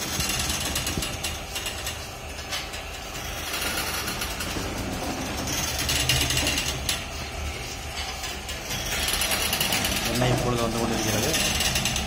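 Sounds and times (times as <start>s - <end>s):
stone press grinding: 0.0s - 12.0s.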